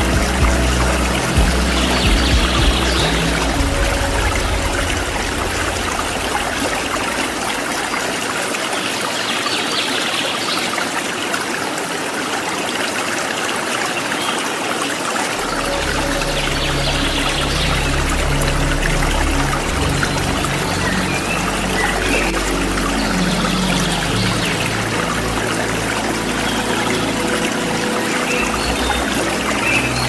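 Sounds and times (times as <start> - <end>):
waterfall stream splashing: 0.0 - 30.0.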